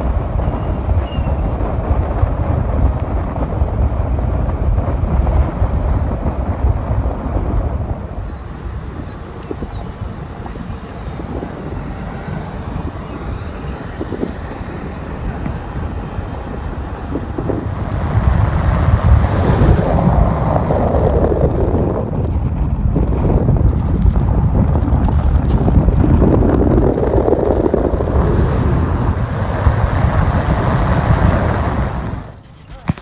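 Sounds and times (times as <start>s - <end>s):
car road rumble: 0.0s - 33.0s
wind buffeting microphone: 0.0s - 33.0s.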